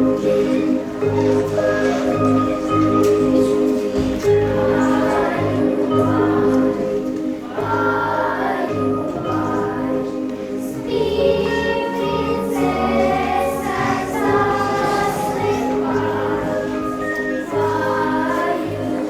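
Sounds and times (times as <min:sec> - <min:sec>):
choral singing: 0:00.0 - 0:19.0.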